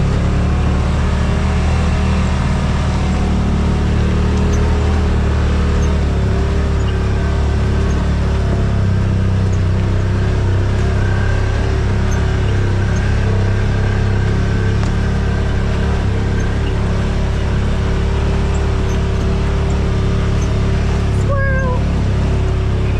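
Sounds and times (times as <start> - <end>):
vehicle engine droning: 0.0 - 22.9.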